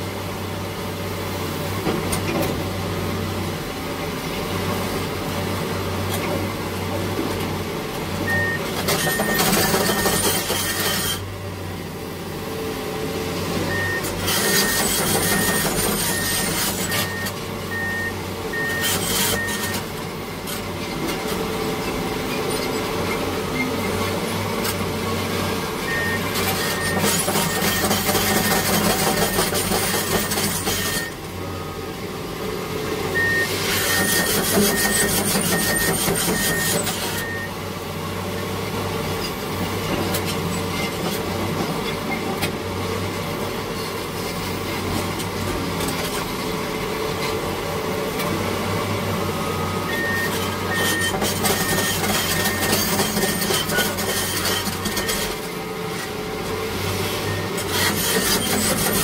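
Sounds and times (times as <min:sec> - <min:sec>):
heavy diesel machinery working: 0:00.0 - 0:59.0.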